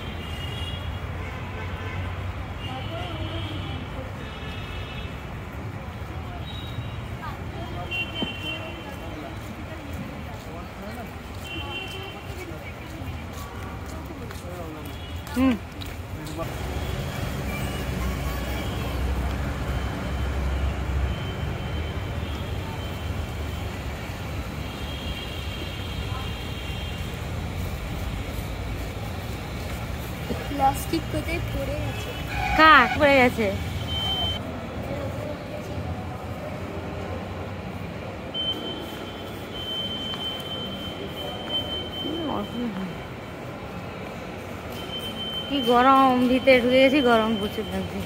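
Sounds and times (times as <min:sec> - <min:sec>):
road traffic: 0:00.0 - 0:48.0
shopping mall hubbub: 0:00.0 - 0:48.0.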